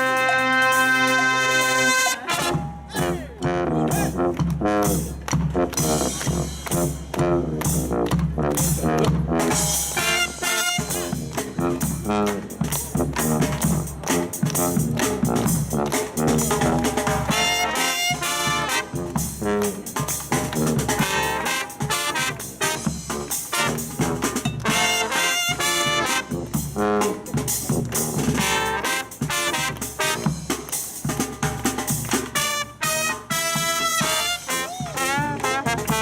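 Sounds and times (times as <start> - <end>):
brass band playing: 0.0 - 36.0.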